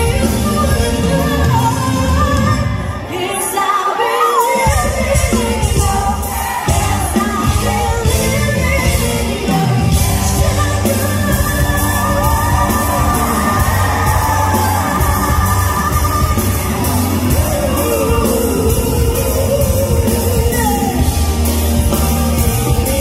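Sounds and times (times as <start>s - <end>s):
amplified band with steady beat: 0.0s - 23.0s
woman singing into microphone: 0.0s - 23.0s.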